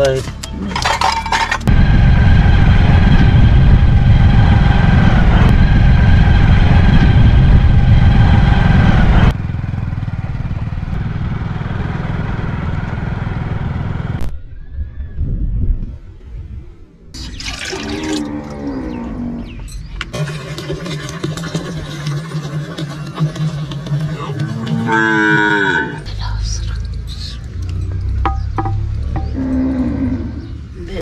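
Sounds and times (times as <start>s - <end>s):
machine rumbling and whining: 0.0s - 14.4s, 18.1s - 31.0s.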